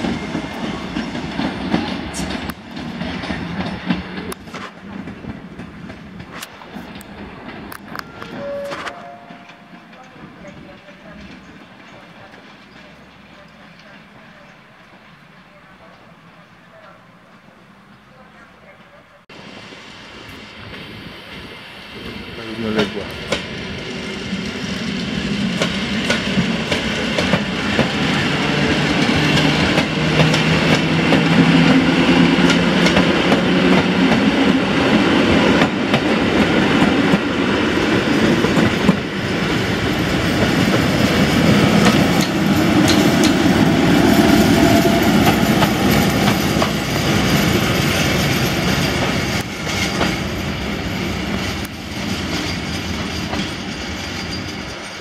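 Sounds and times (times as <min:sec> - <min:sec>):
wheels clacking over rail joints: 0:00.0 - 0:15.3, 0:22.8 - 0:55.0.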